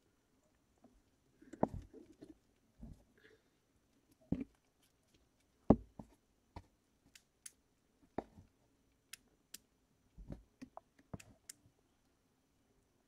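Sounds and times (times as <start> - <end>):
hands fiddling with equipment: 0.0 - 3.2, 3.8 - 11.8.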